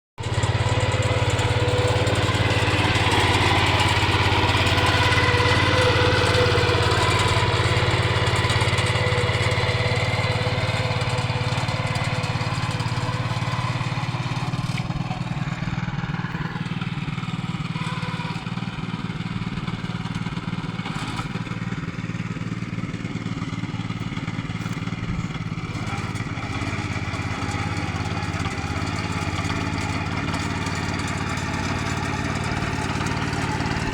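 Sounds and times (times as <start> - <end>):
hand tractor engine running: 0.2 - 33.9.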